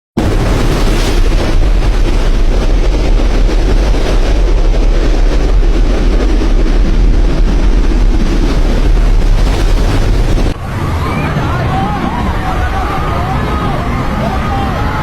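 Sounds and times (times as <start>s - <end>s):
thunderstorm roar: 0.2s - 15.0s.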